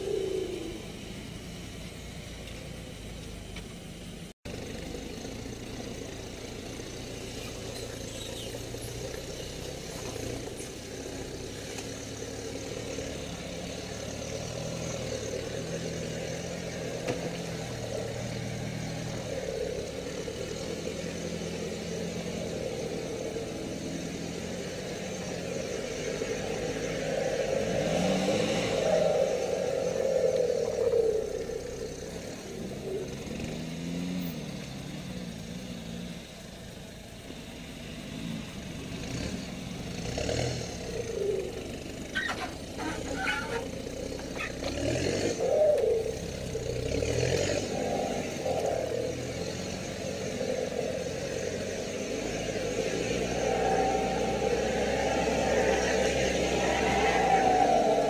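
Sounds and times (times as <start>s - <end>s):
off-road engine running: 0.0s - 58.0s.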